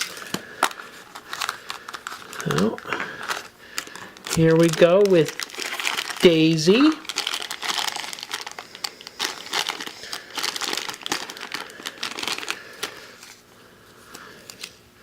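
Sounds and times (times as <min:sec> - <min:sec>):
wrapper crumpled and torn open: 0:00.0 - 0:13.4.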